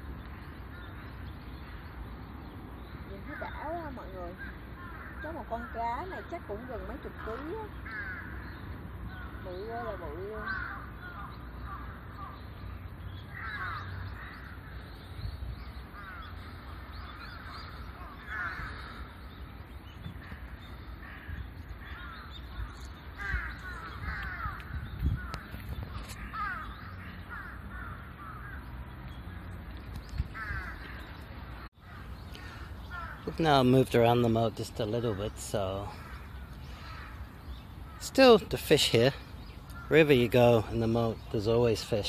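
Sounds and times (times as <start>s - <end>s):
crows cawing: 3.2s - 12.5s, 13.3s - 15.0s, 15.9s - 19.4s, 20.0s - 29.5s, 30.3s - 42.0s.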